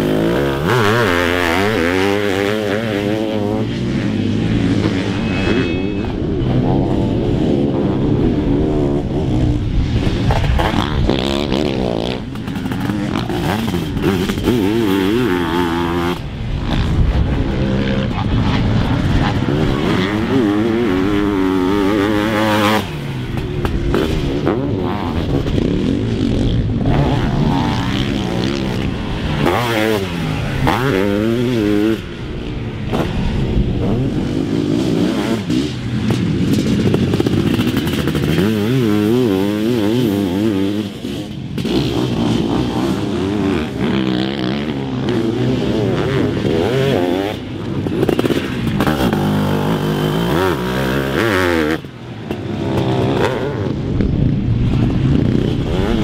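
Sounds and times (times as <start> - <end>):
motocross engines revving: 0.0 - 56.0.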